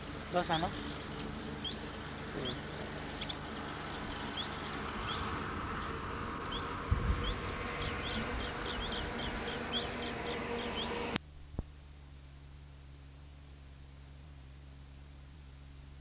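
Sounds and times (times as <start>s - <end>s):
low hum: 0.0s - 16.0s
steady hiss: 0.0s - 16.0s.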